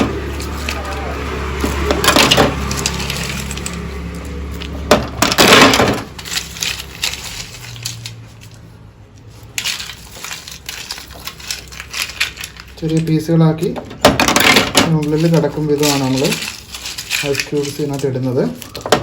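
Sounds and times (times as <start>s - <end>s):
ice cubes cracking and clattering: 0.0s - 8.6s, 9.4s - 19.0s.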